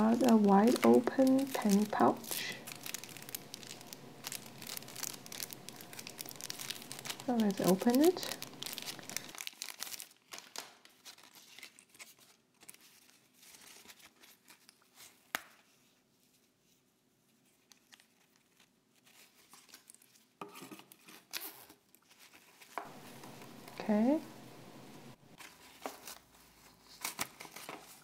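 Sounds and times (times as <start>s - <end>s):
plastic bag crinkling and tearing: 0.0s - 15.5s, 17.5s - 24.2s, 25.3s - 28.0s.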